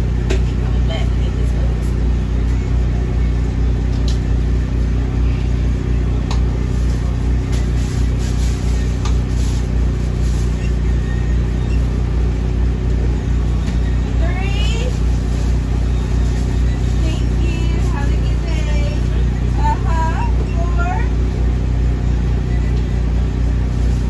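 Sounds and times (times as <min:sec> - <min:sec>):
motor humming: 0:00.0 - 0:24.0.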